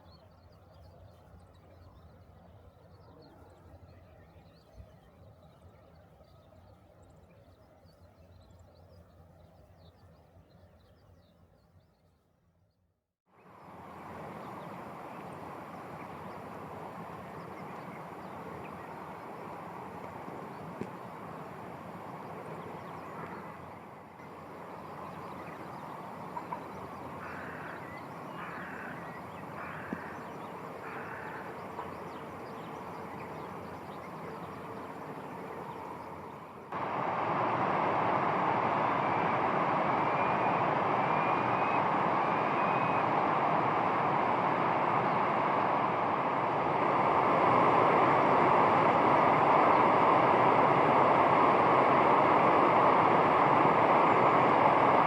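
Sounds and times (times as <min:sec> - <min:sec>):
outdoor background noise: 0:00.0 - 0:55.0.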